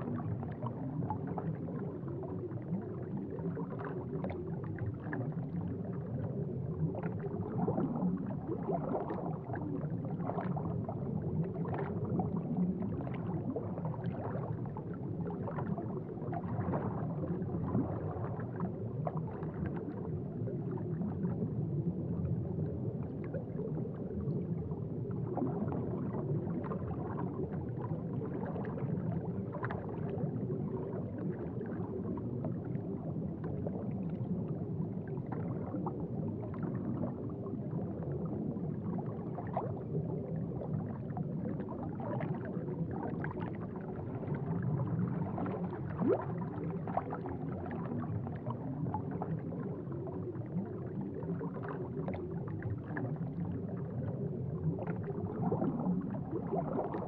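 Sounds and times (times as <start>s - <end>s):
aquarium water bubbling: 0.0s - 57.0s.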